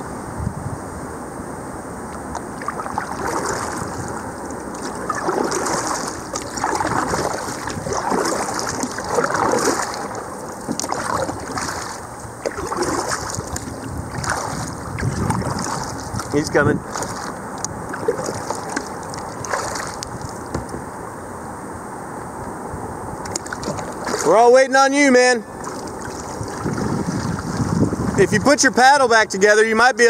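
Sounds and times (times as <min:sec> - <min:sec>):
wind on microphone: 0:00.0 - 0:21.2, 0:22.3 - 0:24.6, 0:25.4 - 0:29.4
water splashing around kayak: 0:02.1 - 0:20.9, 0:23.2 - 0:29.1.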